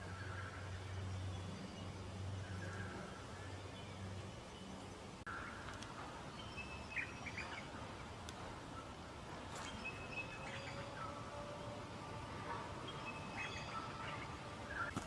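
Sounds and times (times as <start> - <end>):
birds chirping: 0.0 - 15.0
outdoor background noise: 0.0 - 15.0.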